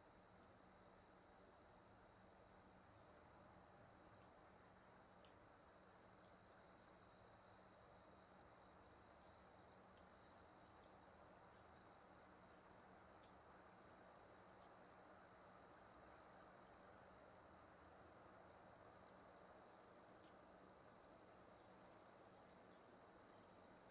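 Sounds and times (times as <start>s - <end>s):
faint high-pitched whine: 0.0s - 23.9s
faint ticks: 2.6s - 23.9s.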